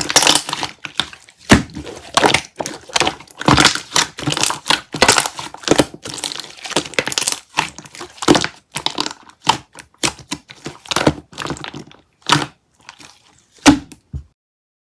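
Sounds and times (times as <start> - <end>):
crunchy crackling of mixture pressed: 0.0 - 14.1.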